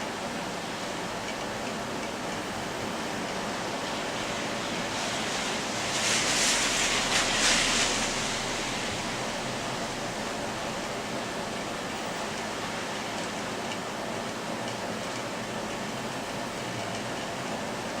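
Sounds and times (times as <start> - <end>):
rain hissing: 0.1 - 18.0.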